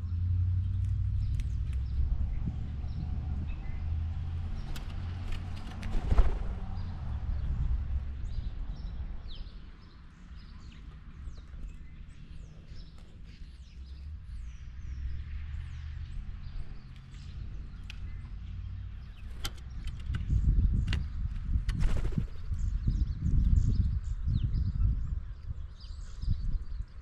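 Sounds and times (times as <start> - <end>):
low outdoor rumble: 0.0 - 25.7
small birds chirping: 0.0 - 27.0.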